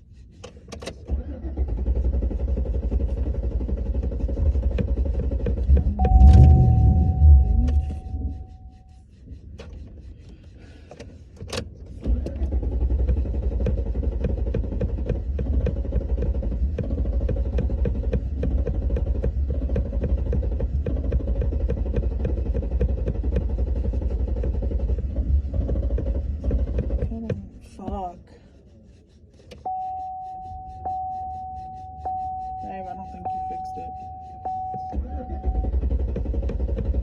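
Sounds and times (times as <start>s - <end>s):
truck engine cranking: 0.6s - 8.7s, 10.9s - 28.1s, 32.0s - 37.0s.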